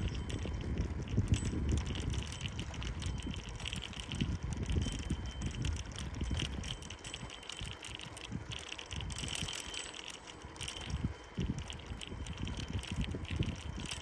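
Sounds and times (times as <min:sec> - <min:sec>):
bicycle parts rattling and clicking: 0:00.0 - 0:14.0
low uneven rumble of tyres: 0:00.0 - 0:14.0.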